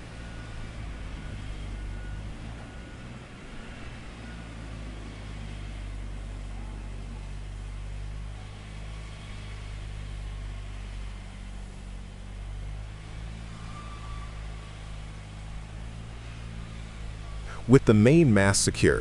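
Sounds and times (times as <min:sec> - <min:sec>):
large engine humming: 0:00.0 - 0:19.0.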